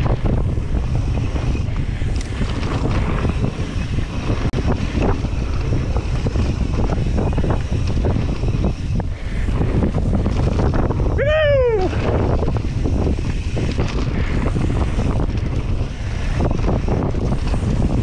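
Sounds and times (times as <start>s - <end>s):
bike tyres rumbling on dirt: 0.0s - 18.0s
wind rushing over microphone: 0.0s - 18.0s.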